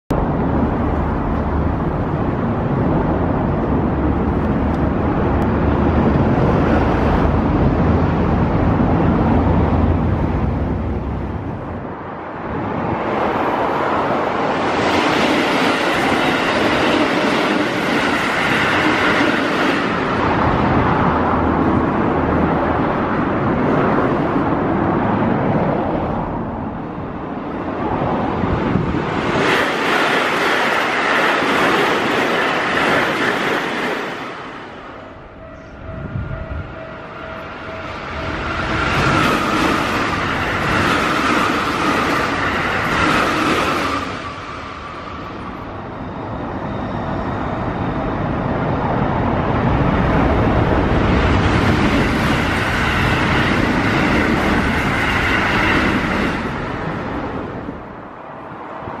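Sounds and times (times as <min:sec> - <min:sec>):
train rumbling past: 0:00.1 - 0:59.0.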